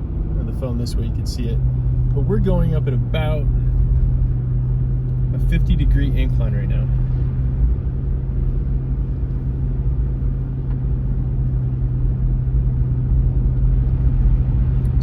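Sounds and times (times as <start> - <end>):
car engine low rumble: 0.0 - 15.0
road noise: 0.0 - 15.0.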